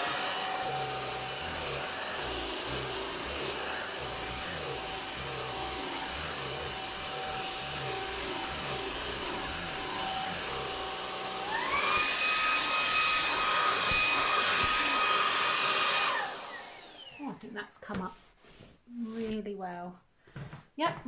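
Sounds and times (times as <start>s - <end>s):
cordless vacuum motor whine: 0.0s - 17.4s.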